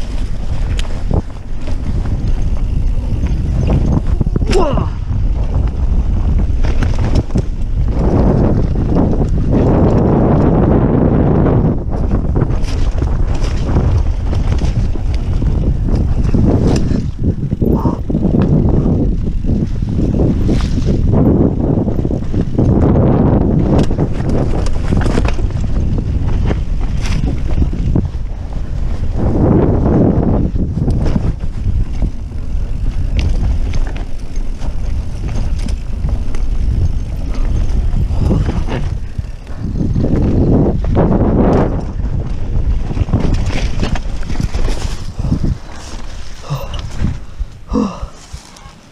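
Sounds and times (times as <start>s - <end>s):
mountain bike rumbling on dirt: 0.0s - 48.9s
wind buffeting microphone: 0.0s - 48.9s.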